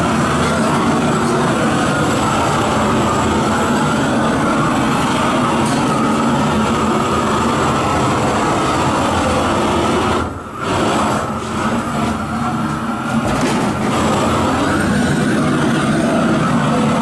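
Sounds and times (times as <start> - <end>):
gas torch flame rushing: 0.0 - 17.0.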